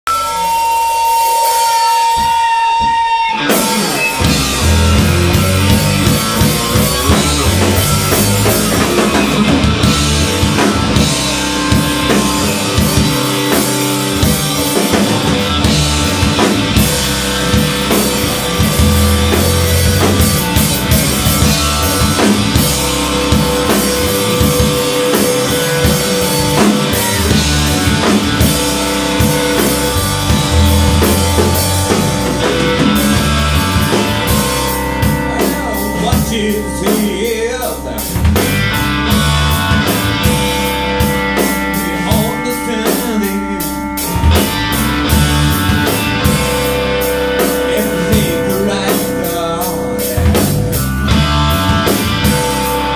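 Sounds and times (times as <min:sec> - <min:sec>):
live rock band playing: 0:00.0 - 0:52.9.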